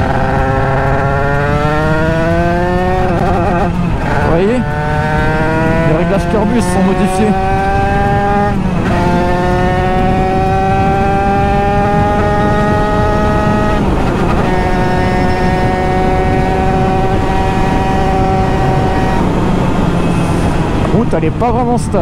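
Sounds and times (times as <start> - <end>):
two-stroke engine revving: 0.0 - 21.4.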